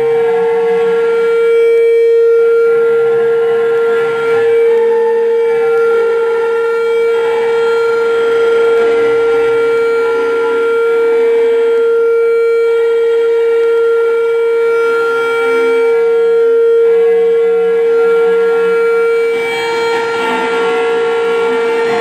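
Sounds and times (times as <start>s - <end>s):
fainter higher tones: 0.0s - 22.0s
loud electronic drone tone: 0.0s - 22.0s
shifting lower tones: 0.0s - 22.0s.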